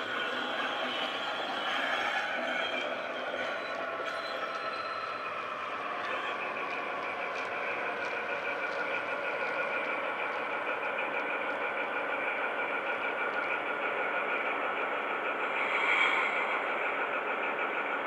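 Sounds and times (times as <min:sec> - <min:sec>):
model train diesel engine sound: 0:00.0 - 0:18.0.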